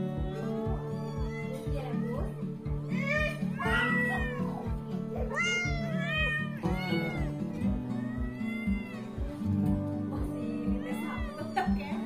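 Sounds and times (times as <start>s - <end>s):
music with a steady beat: 0.0s - 12.0s
cats meowing: 0.3s - 12.0s.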